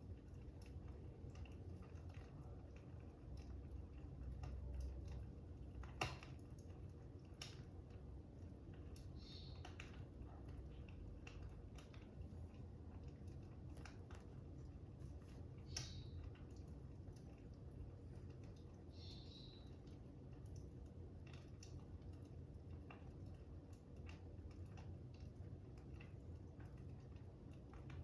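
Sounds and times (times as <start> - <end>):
fire crackling: 0.0 - 28.0
low steady rumble: 0.0 - 28.0.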